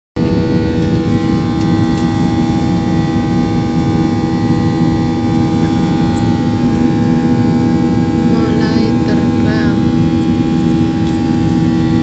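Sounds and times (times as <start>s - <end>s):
airliner engines droning in cabin: 0.2s - 12.0s.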